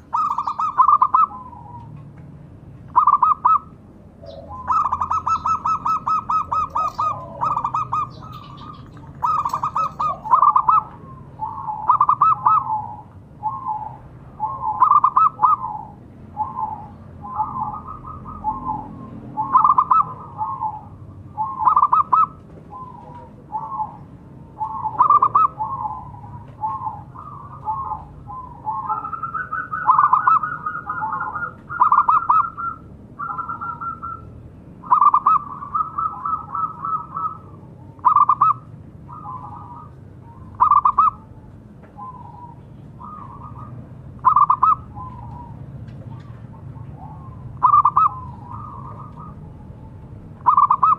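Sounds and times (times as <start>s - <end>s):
dove cooing: 0.0s - 2.1s, 2.9s - 41.4s, 42.0s - 50.9s.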